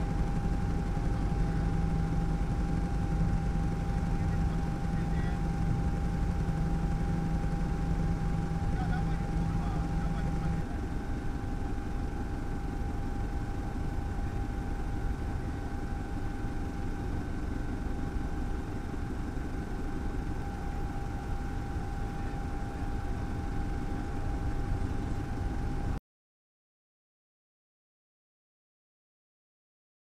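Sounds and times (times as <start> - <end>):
engine hum with whine: 0.0 - 26.0.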